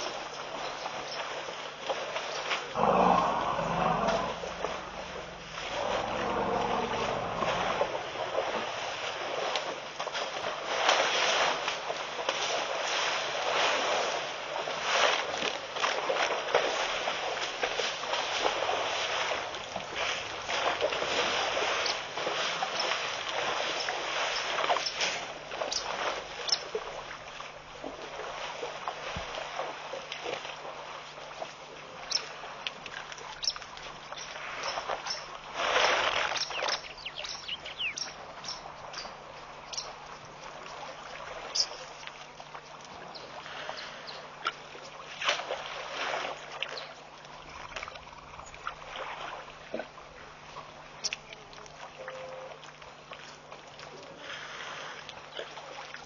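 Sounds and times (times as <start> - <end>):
elephants splashing through water: 0.0 - 56.0.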